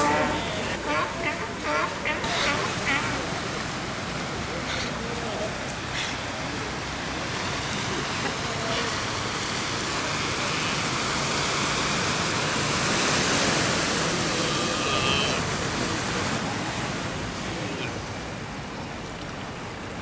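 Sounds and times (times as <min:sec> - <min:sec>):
ocean surf washing on beach: 0:00.0 - 0:20.0.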